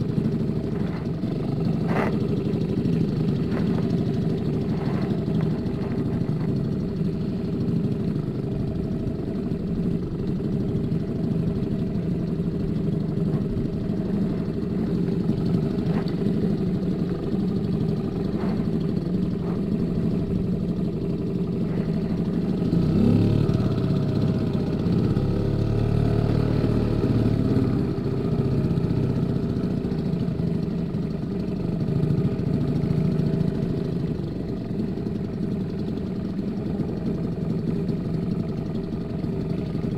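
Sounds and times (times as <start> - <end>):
small outboard motor running: 0.0 - 39.9.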